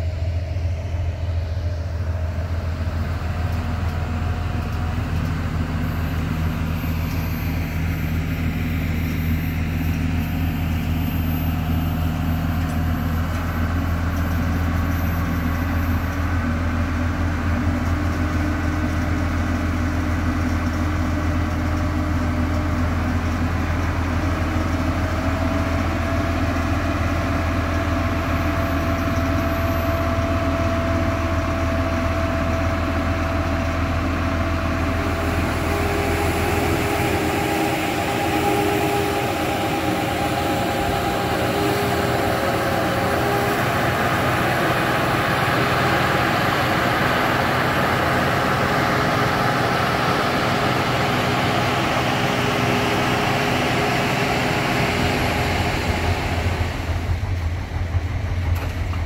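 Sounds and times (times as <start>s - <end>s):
heavy vehicle engine humming: 0.0s - 59.0s.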